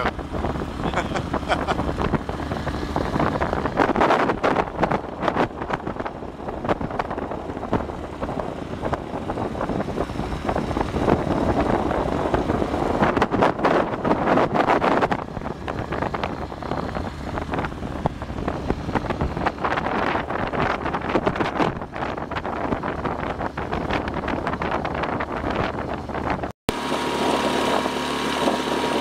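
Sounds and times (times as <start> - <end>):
outboard motor rumble: 0.0 - 29.0
wind buffeting microphone: 0.0 - 29.0.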